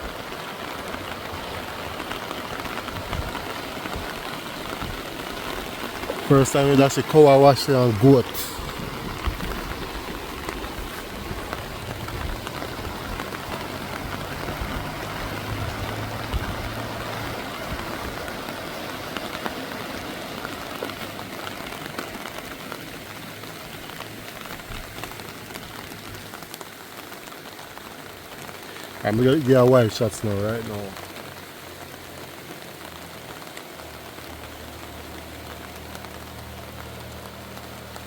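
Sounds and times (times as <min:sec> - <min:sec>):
rain hissing: 0:00.0 - 0:38.0
rushing floodwater: 0:00.0 - 0:38.0.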